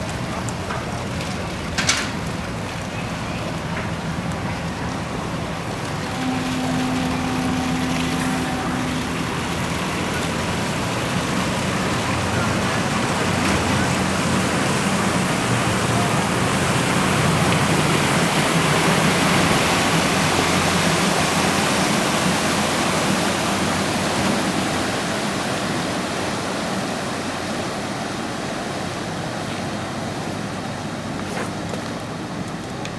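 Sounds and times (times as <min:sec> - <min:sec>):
boat engine running low: 0:00.0 - 0:32.9
churning water rushing: 0:00.0 - 0:32.9.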